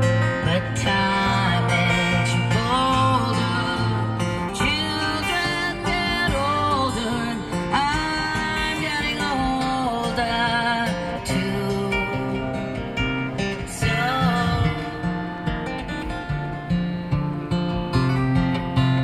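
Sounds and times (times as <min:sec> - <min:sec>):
person singing: 0:00.0 - 0:15.7
strummed acoustic guitar: 0:00.0 - 0:19.0.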